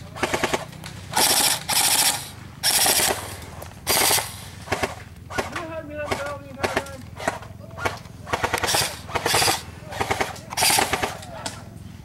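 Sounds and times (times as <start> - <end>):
airsoft rifle full-auto bursts: 0.1 - 11.2.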